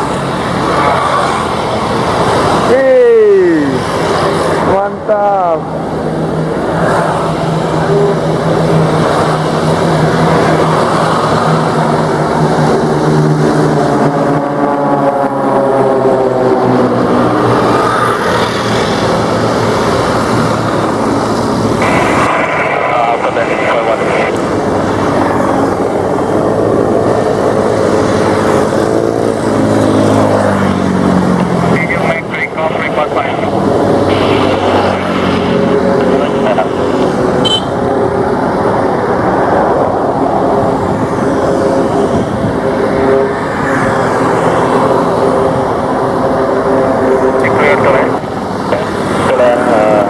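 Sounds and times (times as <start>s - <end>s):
propeller aircraft engine droning: 0.0s - 50.0s.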